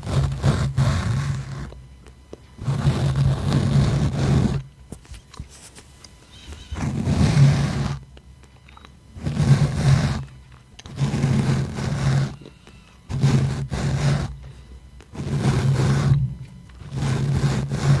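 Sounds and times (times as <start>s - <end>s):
rubbing strokes on microphone: 0.0s - 1.8s, 2.6s - 8.1s, 9.2s - 14.5s, 15.1s - 18.0s.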